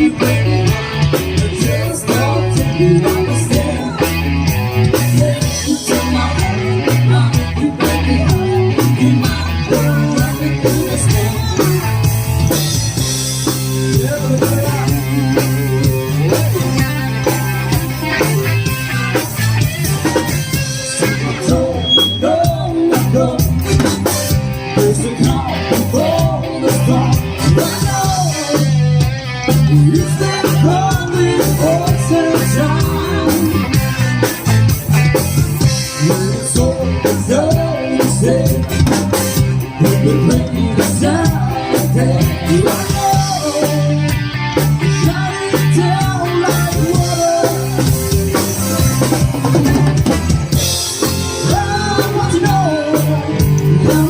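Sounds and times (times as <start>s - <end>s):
live rock band playing: 0.0s - 54.0s
wavering lead guitar line: 0.0s - 54.0s.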